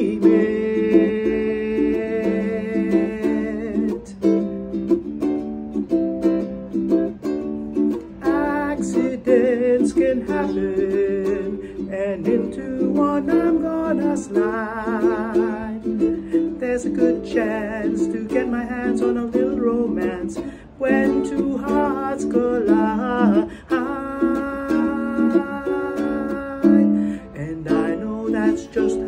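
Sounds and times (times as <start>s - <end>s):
man singing: 0.0s - 4.5s, 8.0s - 29.0s
ukulele playing: 0.0s - 29.0s.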